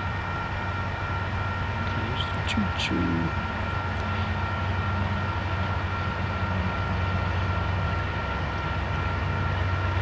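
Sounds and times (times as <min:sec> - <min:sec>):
distant train rumble: 0:00.0 - 0:10.0.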